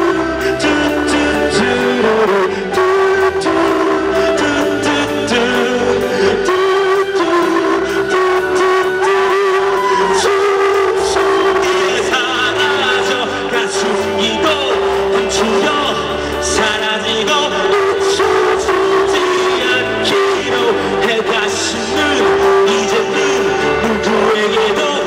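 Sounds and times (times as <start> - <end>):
man singing: 0.0 - 25.0
rock band playing: 0.0 - 25.0.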